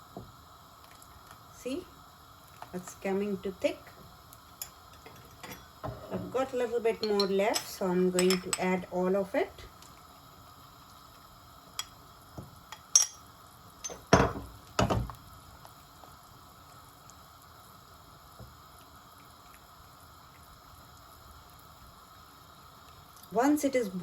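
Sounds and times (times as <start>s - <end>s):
simmering gravy hiss: 0.0s - 24.0s.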